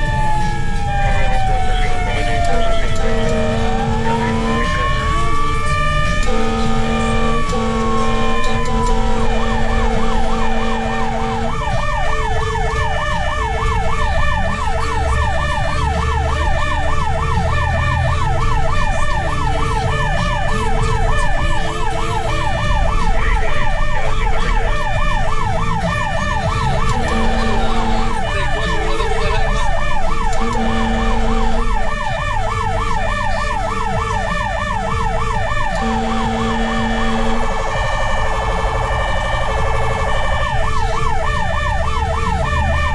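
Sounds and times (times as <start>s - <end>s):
pulsing siren tone: 0.0s - 42.9s
siren yelping: 0.0s - 42.9s
truck engine rumbling: 0.0s - 42.9s
deep horn: 0.8s - 42.9s.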